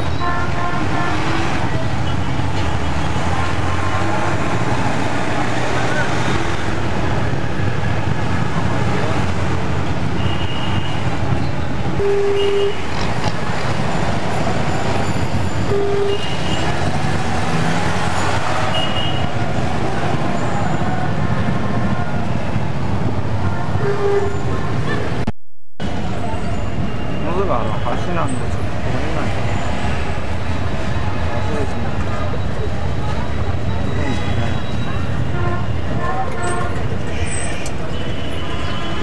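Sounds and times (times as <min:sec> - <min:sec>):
engine and road noise: 0:00.0 - 0:39.0.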